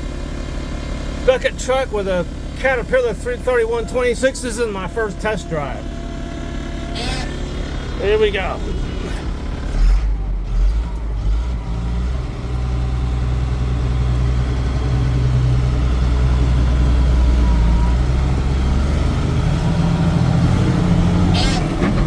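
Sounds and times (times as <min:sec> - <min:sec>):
truck diesel engine pulling away: 0:00.0 - 0:22.0.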